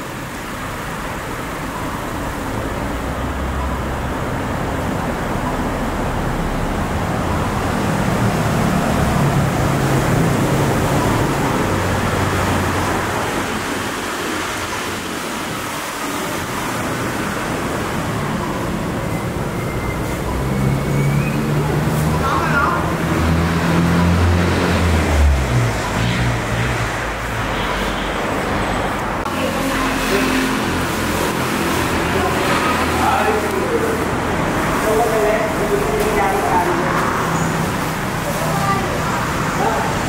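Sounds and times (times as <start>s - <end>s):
traffic rush of engines and tyres: 0.0s - 40.0s
vehicle engine hum: 0.0s - 40.0s.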